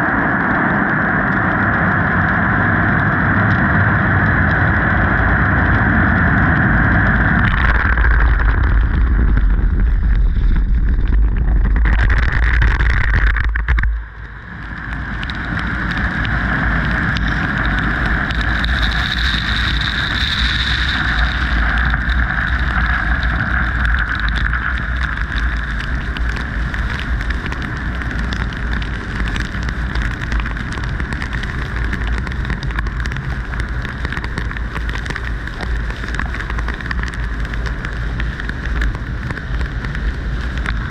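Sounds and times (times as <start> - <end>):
heavy low rumble: 0.0 - 40.9.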